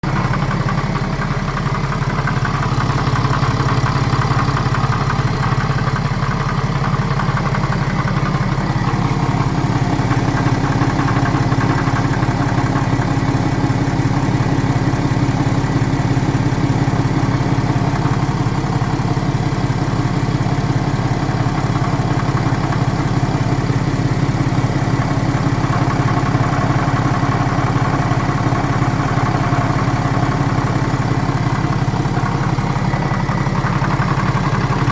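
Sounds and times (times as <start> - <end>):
diesel engine idling: 0.0 - 34.9
engine knocking: 0.0 - 34.9.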